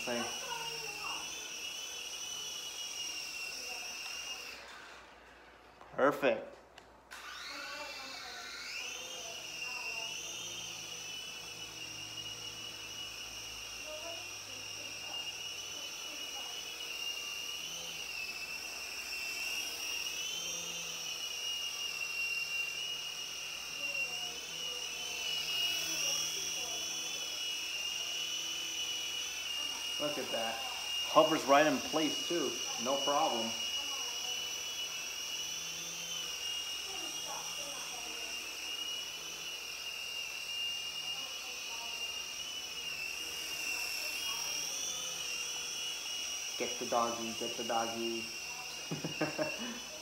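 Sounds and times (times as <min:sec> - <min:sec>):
toy helicopter rotors whining: 0:00.0 - 0:06.4, 0:07.0 - 0:50.0.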